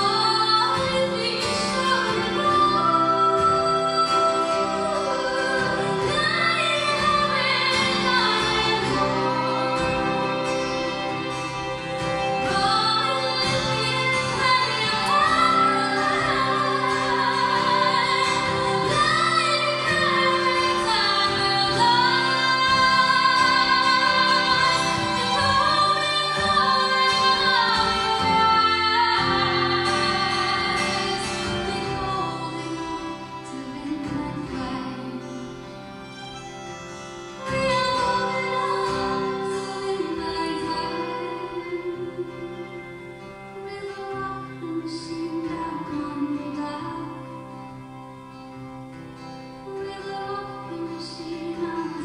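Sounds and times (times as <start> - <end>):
woman singing: 0.0 - 36.5, 37.4 - 48.0, 49.5 - 52.0
violin and sustained instruments: 0.0 - 52.0.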